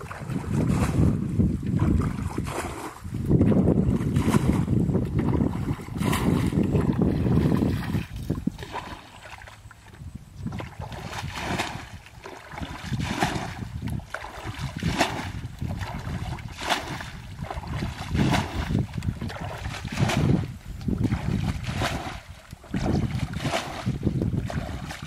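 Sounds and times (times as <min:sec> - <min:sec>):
water splashing from bucket: 0:01.7 - 0:09.6, 0:10.4 - 0:25.0.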